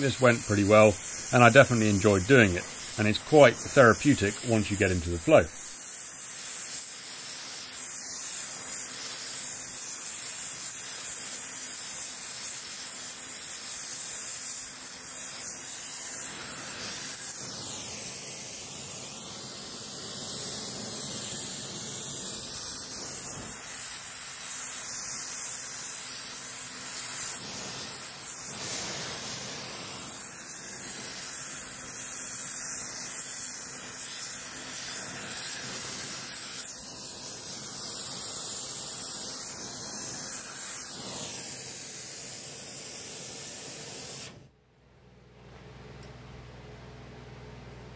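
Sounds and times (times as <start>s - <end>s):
gas torch flame hissing: 0.0s - 44.5s.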